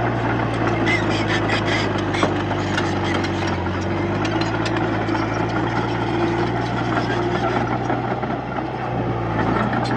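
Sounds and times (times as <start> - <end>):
heavy diesel engine running: 0.0 - 9.9.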